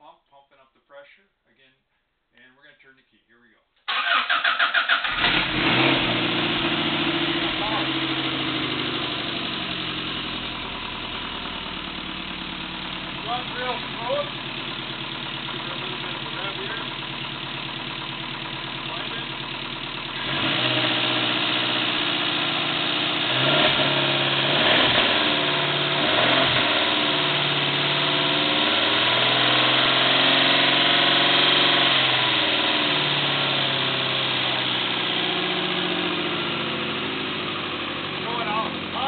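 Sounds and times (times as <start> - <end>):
engine revving: 3.9 - 39.0.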